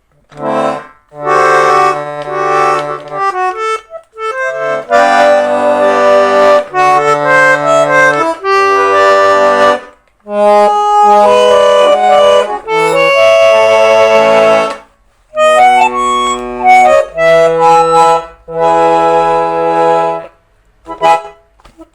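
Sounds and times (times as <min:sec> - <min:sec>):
concertina playing chords: 0:00.0 - 0:21.5.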